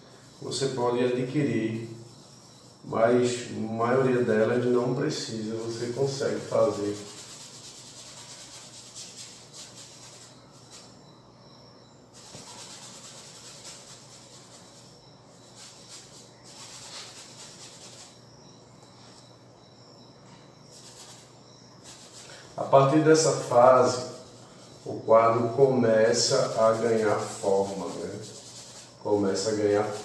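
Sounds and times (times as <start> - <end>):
paintbrush scrubbing canvas: 0.0 - 11.0, 12.1 - 18.2, 20.7 - 30.0.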